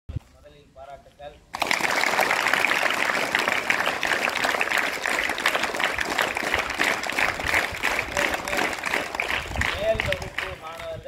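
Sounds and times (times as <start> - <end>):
people applauding: 1.6 - 11.0.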